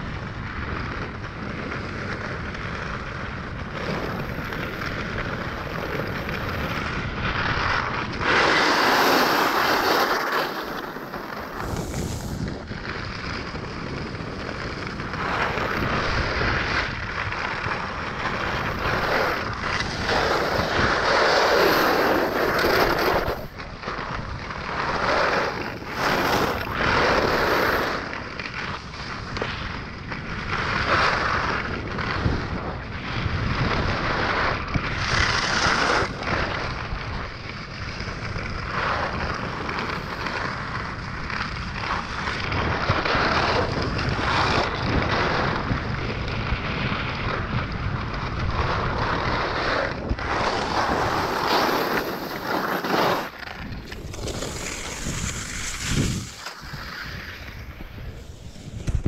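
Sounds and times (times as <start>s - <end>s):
skis scraping on packed snow: 0.0s - 59.0s
wind buffeting microphone: 0.0s - 59.0s.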